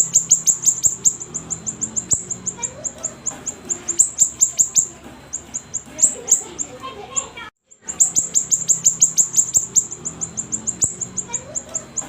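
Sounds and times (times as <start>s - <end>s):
songbird rapid high chirps: 0.0s - 12.0s.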